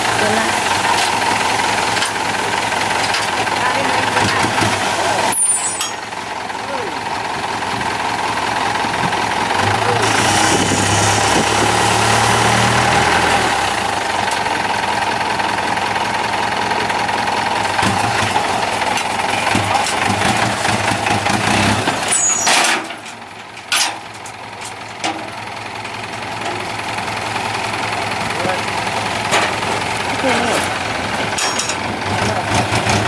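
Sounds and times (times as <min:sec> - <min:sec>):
truck engine running under load: 0:00.0 - 0:33.0.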